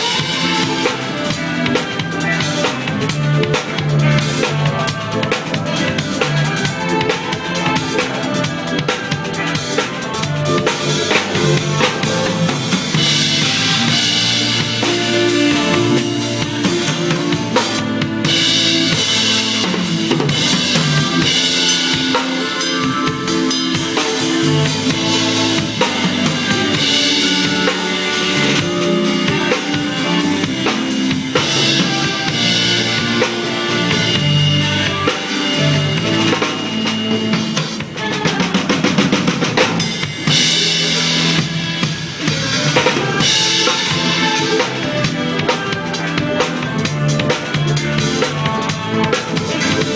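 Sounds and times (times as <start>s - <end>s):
band music recording: 0.0s - 49.9s
drum kit playing: 0.0s - 49.9s.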